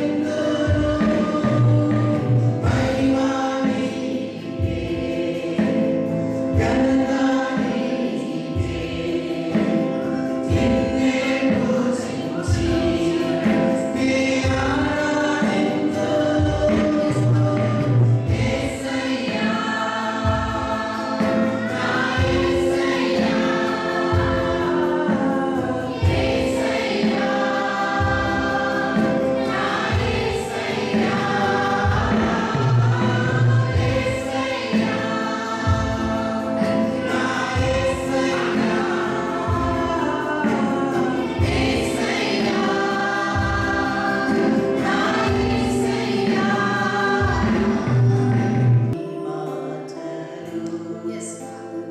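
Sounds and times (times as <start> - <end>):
choir singing worship song: 0.0 - 51.9.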